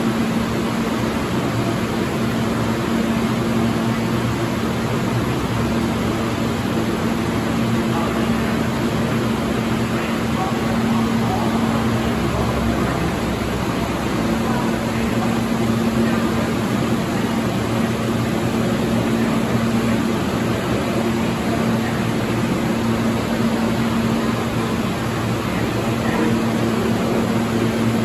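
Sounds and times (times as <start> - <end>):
train air conditioning rush: 0.0 - 28.0.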